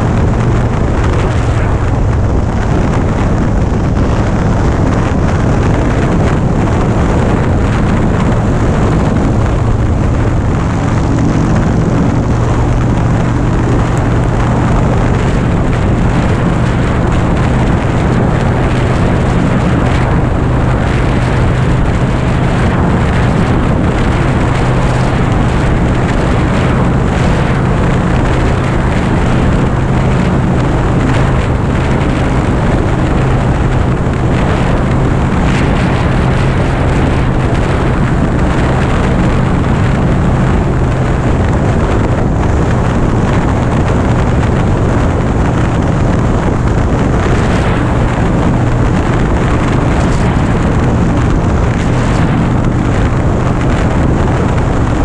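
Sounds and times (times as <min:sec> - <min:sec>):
motorcycle engine cruising: 0:00.0 - 0:55.0
wind noise on microphone: 0:00.0 - 0:55.0.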